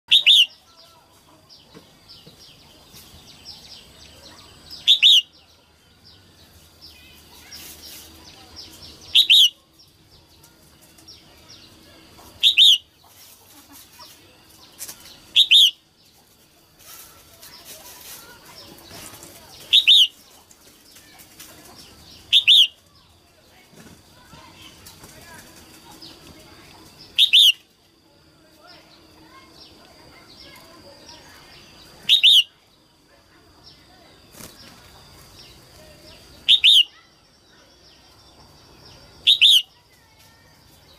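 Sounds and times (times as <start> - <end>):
faint bird chirps: 0.1 - 21.2, 21.9 - 23.2, 25.9 - 27.8, 28.6 - 40.9.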